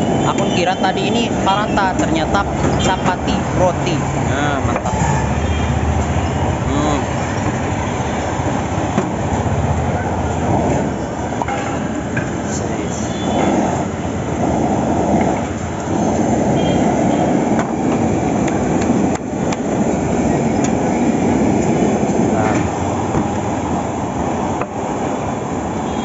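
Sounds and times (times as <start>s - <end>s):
gas burner flame roaring: 0.0s - 26.0s.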